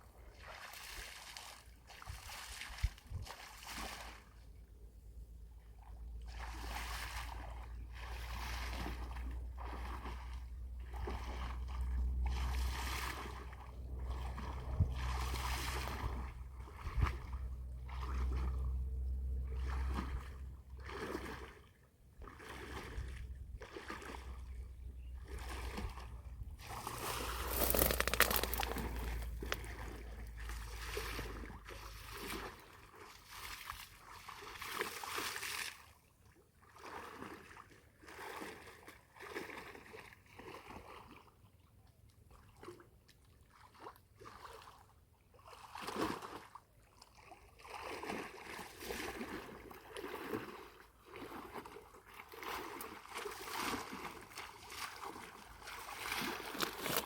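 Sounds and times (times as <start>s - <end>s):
water splashing around boat: 0.0s - 57.0s.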